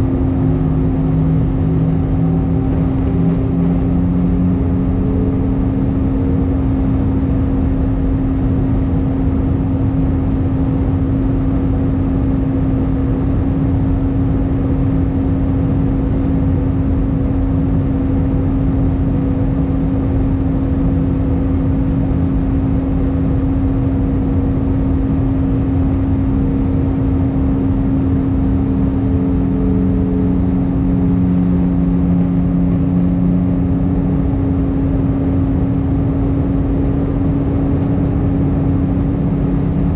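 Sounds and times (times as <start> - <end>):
airliner engines and airflow rumble: 0.0 - 39.9
constant low hum: 0.0 - 39.9.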